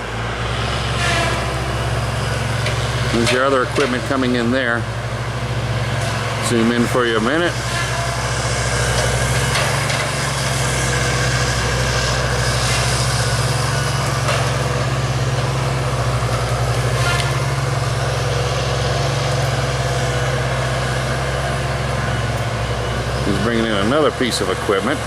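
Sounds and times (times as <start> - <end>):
heavy machinery engine rumble: 0.0 - 25.0.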